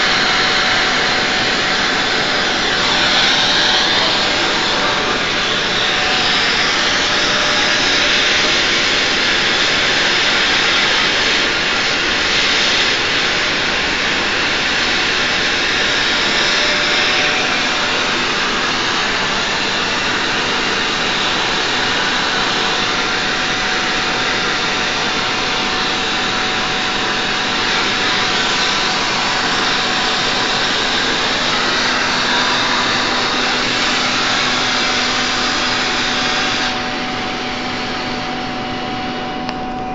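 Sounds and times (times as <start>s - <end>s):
torch flame hissing: 0.0s - 38.4s.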